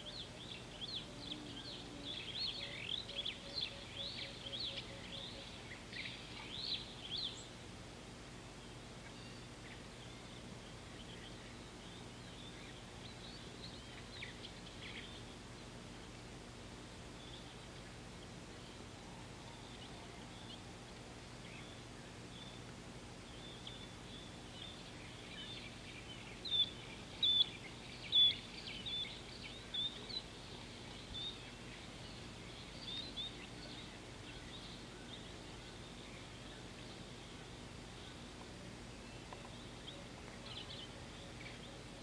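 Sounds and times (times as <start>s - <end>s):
birds chirping: 0.0s - 42.0s
faint background hiss: 0.0s - 42.0s.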